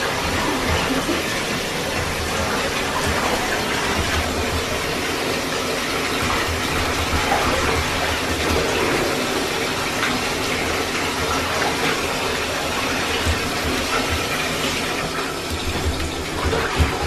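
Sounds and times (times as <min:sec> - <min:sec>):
water running into a bathtub: 0:00.0 - 0:17.0.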